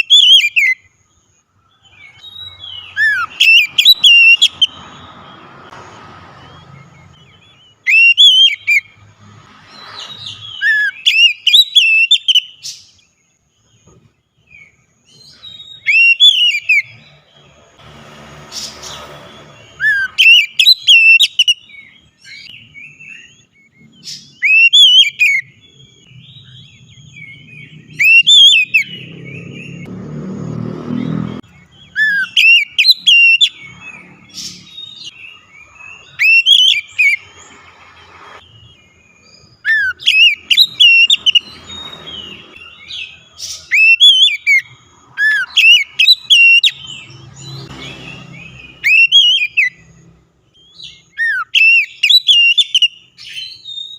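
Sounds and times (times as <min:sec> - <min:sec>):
bird whistling song: 0:00.0 - 0:05.8, 0:06.4 - 0:17.2, 0:18.6 - 0:29.9, 0:31.0 - 0:53.9.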